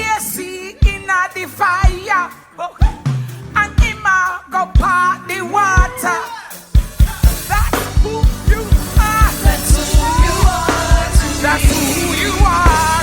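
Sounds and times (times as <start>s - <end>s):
gospel band music: 0.0s - 13.0s
person singing: 0.0s - 13.0s
fast drum beat: 0.8s - 5.1s, 5.7s - 13.0s.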